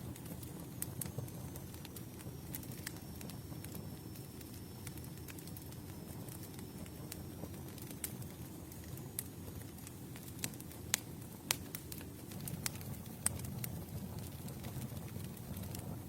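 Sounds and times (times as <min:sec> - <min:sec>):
burning wood popping: 0:00.0 - 0:16.0
low rumble of flames: 0:00.0 - 0:16.0.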